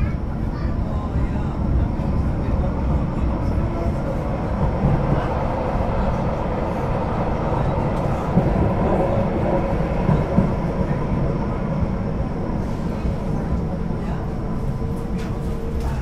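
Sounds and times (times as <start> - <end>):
light-rail car rolling: 0.0 - 16.0.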